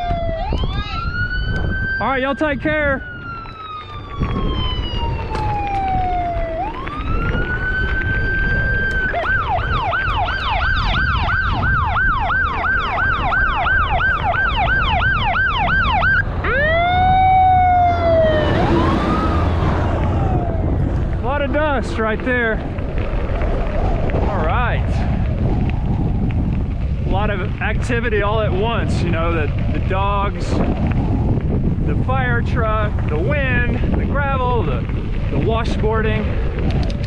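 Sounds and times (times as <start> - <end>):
fire truck siren wailing: 0.0 - 31.6, 34.9 - 37.0
truck engine rumble: 0.0 - 37.0.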